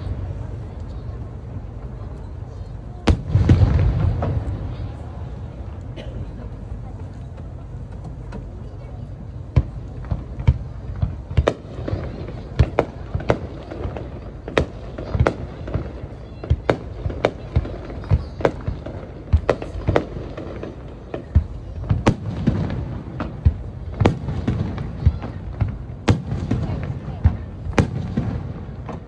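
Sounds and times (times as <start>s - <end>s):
fireworks bangs: 3.0s - 6.9s, 9.4s - 29.0s.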